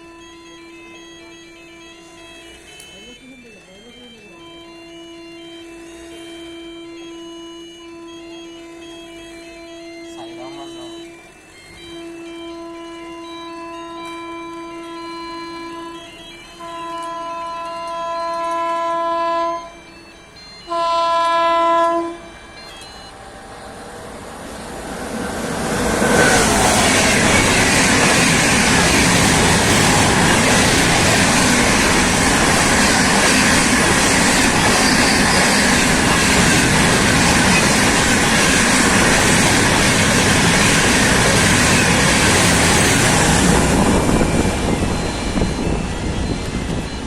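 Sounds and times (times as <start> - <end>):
train rumbling past on rails: 0.0 - 47.0.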